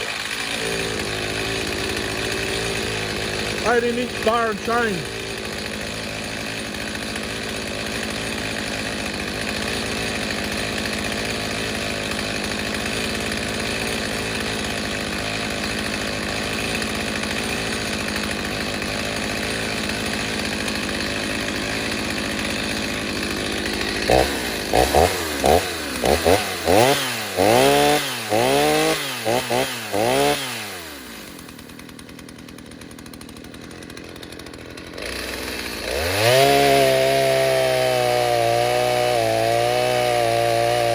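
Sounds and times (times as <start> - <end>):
chainsaw running and revving: 0.0 - 40.9.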